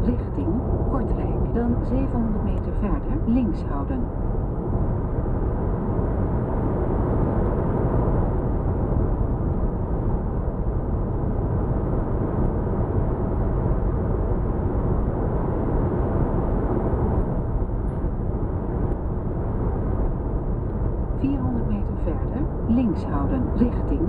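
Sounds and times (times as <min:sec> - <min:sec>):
car cabin drive drone: 0:00.0 - 0:24.0.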